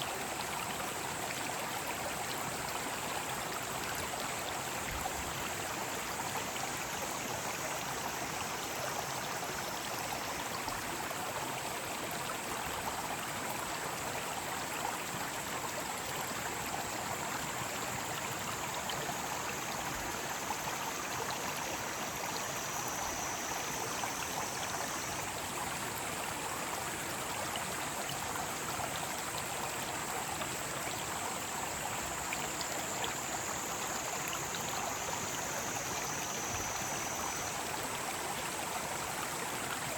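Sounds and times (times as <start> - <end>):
stream rushing over rocks: 0.0 - 39.9
cicadas droning: 0.2 - 13.0, 15.4 - 39.9.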